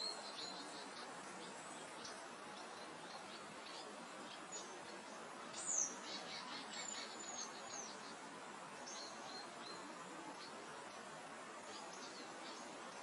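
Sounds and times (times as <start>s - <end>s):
soft wind: 0.0s - 13.0s
songbirds chirping and whistling: 0.0s - 13.0s.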